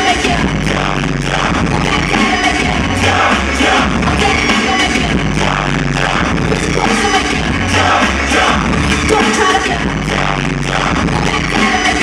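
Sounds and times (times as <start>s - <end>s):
live pop music: 0.0s - 12.0s
person singing: 0.0s - 12.0s.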